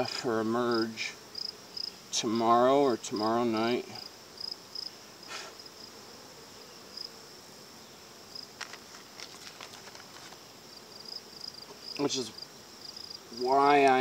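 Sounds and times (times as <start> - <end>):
crickets chirping: 0.5 - 14.0.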